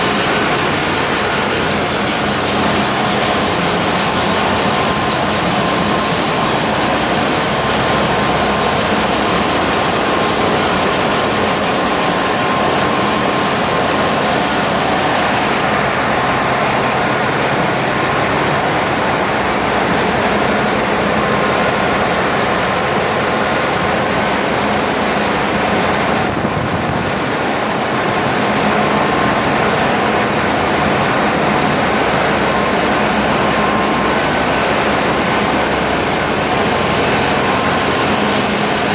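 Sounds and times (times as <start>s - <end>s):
constant humming tones: 0.0s - 38.9s
engine-room machinery din: 0.0s - 38.9s.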